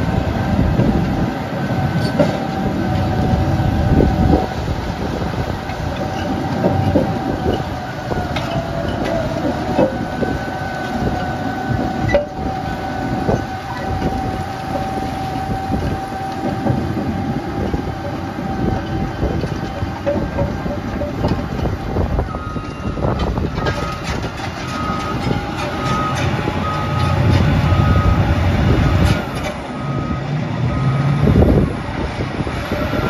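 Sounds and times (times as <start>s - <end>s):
heavy machinery rumbling: 0.0s - 33.0s
machinery clanking and rattling: 0.0s - 33.0s.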